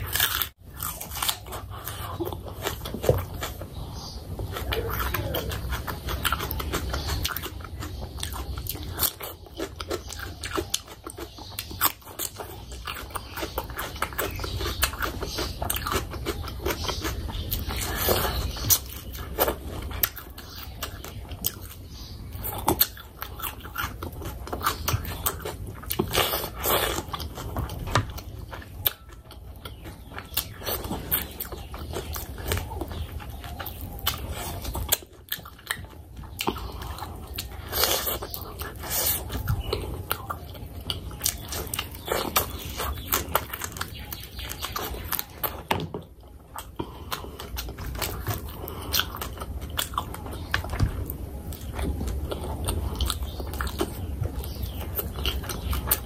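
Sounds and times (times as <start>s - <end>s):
chewing and biting food: 0.0s - 56.0s.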